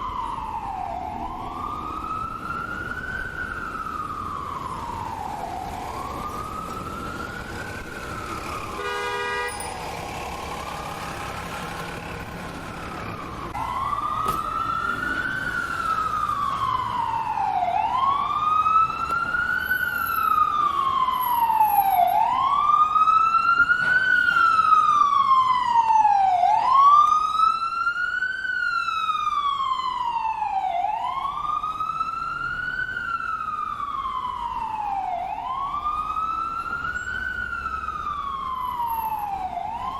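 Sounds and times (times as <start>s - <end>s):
ambulance siren wailing: 0.0s - 39.9s.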